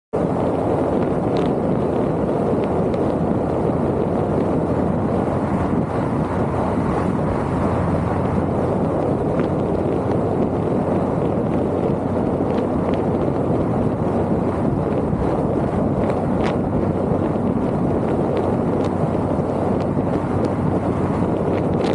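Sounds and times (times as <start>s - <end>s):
vehicle road and wind noise: 0.1s - 21.9s.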